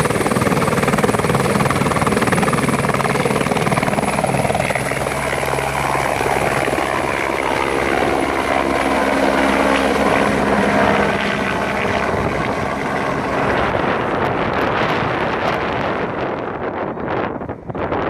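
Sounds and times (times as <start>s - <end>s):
helicopter turbine whine and rotor: 0.0s - 18.0s.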